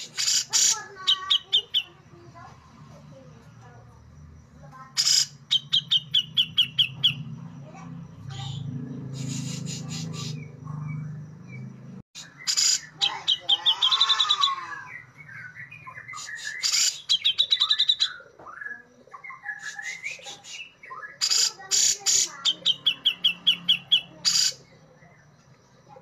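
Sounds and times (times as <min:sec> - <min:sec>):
bird singing with trills: 0:00.0 - 0:02.2, 0:05.0 - 0:26.0.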